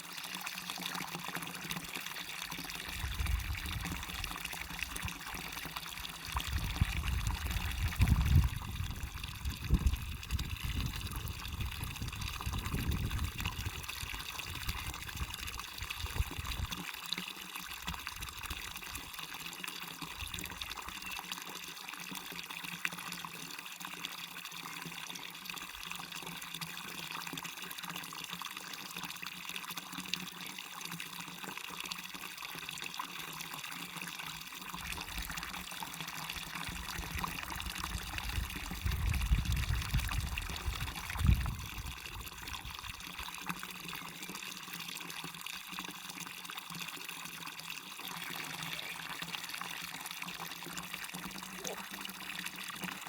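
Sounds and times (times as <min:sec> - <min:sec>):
small waterfall and stream splashing: 0:00.0 - 0:53.0.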